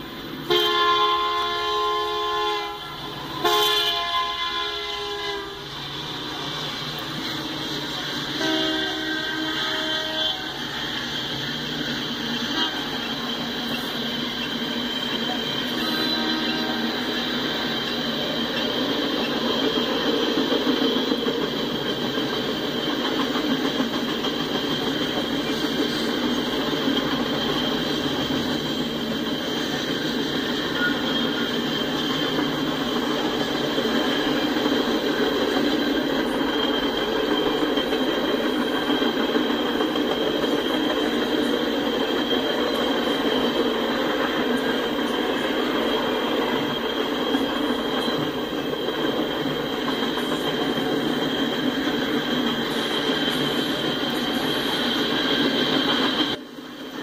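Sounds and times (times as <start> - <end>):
freight cars rolling on rails: 0.0 - 57.0
high-pitched wheel squeal: 2.7 - 20.0, 24.6 - 43.7, 44.4 - 56.4.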